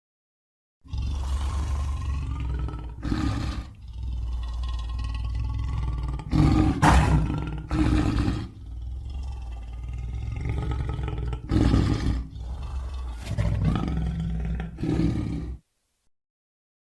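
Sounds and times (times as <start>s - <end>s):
lion roaring: 0.8s - 15.6s.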